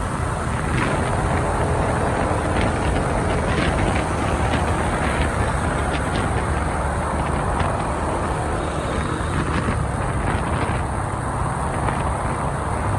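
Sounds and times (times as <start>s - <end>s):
scooter engine: 0.0s - 12.9s
surrounding traffic: 0.0s - 12.9s
wind rumble: 0.0s - 12.9s.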